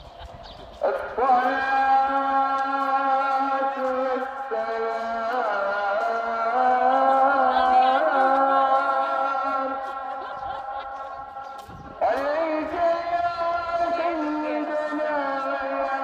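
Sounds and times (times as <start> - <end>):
person chanting held notes: 0.8 - 16.0.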